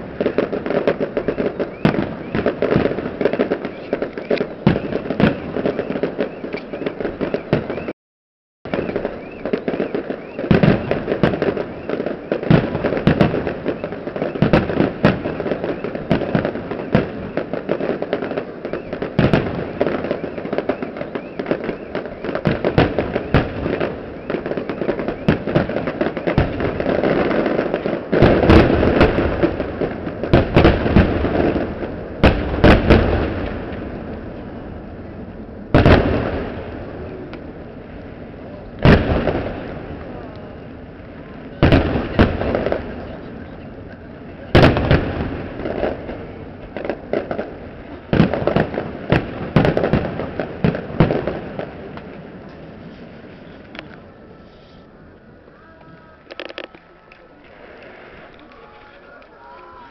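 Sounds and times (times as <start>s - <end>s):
fireworks bangs and crackling: 0.0s - 7.9s, 8.7s - 59.9s
loud fireworks booms: 0.0s - 8.0s, 8.7s - 59.9s.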